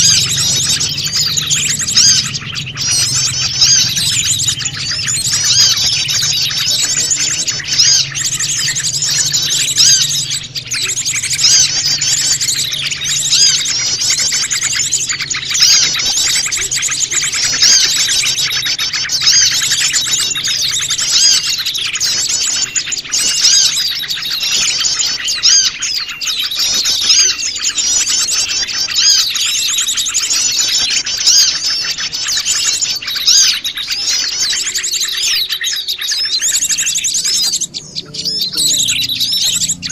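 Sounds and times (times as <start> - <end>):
louder bird calls: 0.0 - 39.9
small birds chirping: 0.0 - 39.9.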